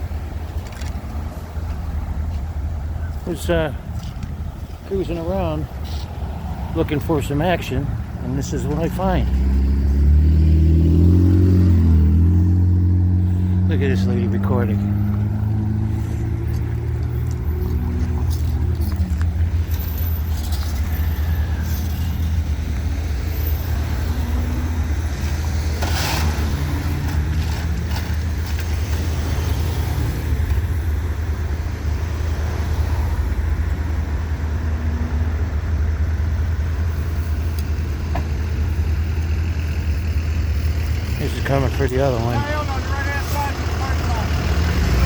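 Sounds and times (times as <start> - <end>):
vehicle engines humming: 0.0 - 45.0
vehicle passing: 3.3 - 45.0.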